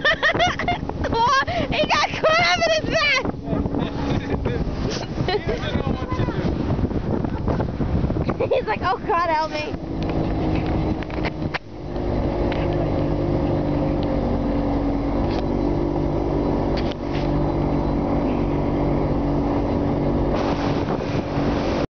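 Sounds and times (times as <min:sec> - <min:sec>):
outboard motor running: 0:00.0 - 0:21.9
wind: 0:00.0 - 0:21.9
rushing water: 0:00.6 - 0:21.9.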